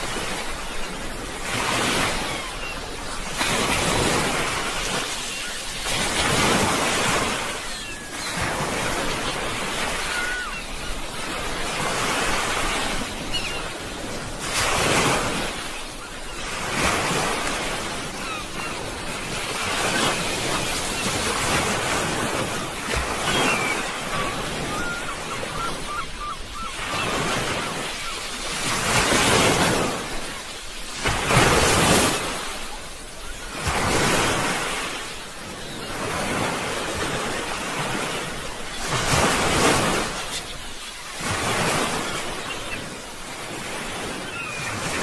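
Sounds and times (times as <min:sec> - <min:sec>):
sea waves breaking on shore: 0:00.0 - 0:45.0.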